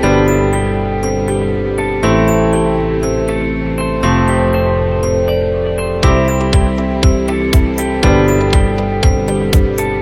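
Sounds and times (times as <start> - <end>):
held chords: 0.0 - 10.0
tinkling bell-like notes: 0.0 - 10.0.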